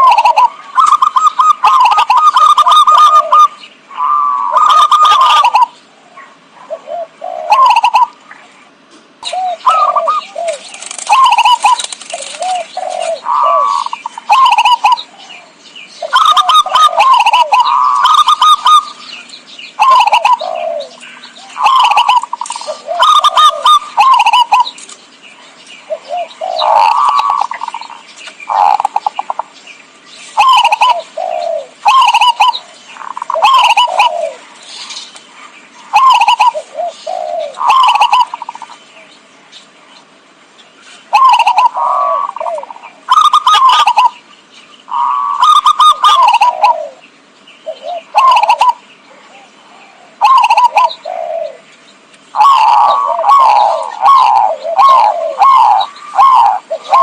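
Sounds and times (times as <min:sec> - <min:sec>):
dove cooing: 0:00.0 - 0:29.6, 0:30.3 - 0:38.8, 0:41.0 - 0:44.3, 0:44.9 - 0:57.0.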